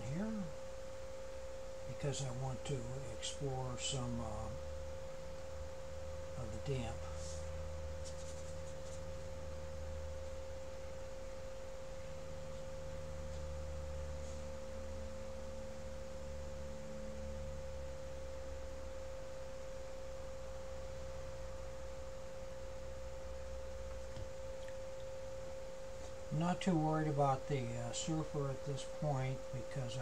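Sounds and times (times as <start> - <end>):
low hum: 0.0 - 30.0
steady pure tone: 0.0 - 30.0.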